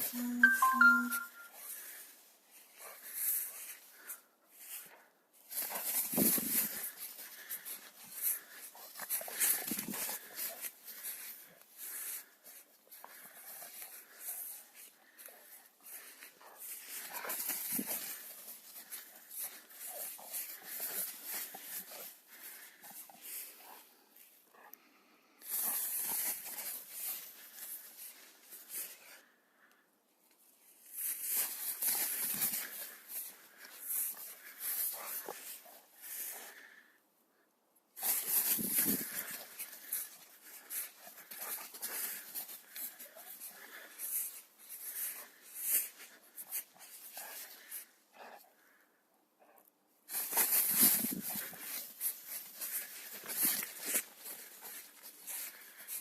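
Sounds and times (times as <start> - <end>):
rustling: 1.3 - 24.7, 25.4 - 29.7, 30.6 - 37.4, 38.0 - 48.9, 50.1 - 56.0.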